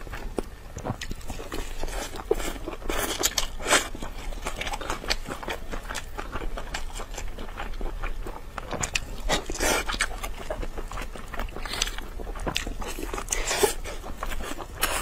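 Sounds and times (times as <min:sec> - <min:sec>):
wet biting and chewing: 0:00.1 - 0:15.0.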